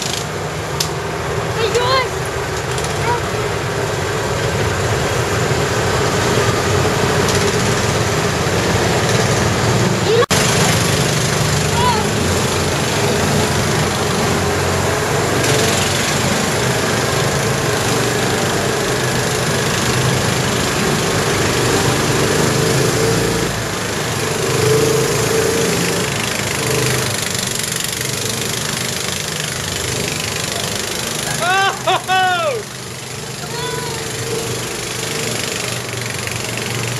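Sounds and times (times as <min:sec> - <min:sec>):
buggy engine running: 0:00.0 - 0:36.9
noisy rush: 0:00.0 - 0:36.9.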